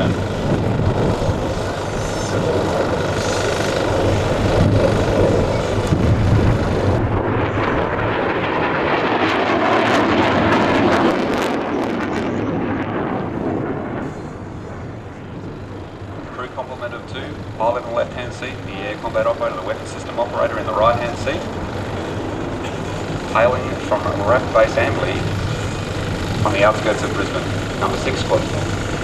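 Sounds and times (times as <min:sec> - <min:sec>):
jet afterburner roaring: 0:00.0 - 0:29.0.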